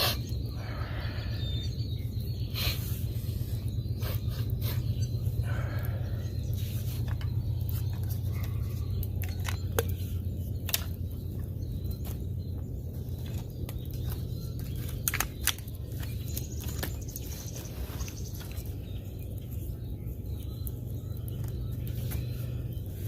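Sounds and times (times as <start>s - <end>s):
steady low rumble: 0.0s - 23.0s
sharp crackles and clicks: 1.6s - 23.0s.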